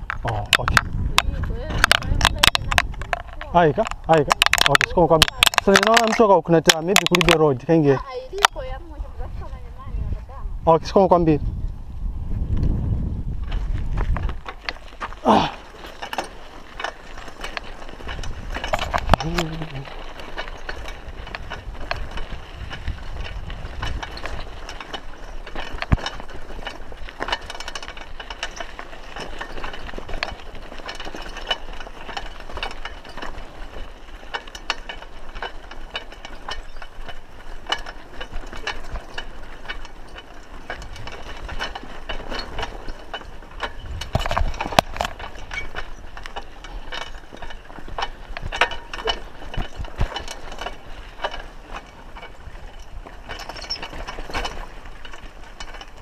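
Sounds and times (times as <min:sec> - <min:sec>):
bicycle knocking over bumps: 0:00.0 - 0:09.4, 0:12.6 - 0:56.0
bicycle rattling on rough track: 0:00.0 - 0:56.0.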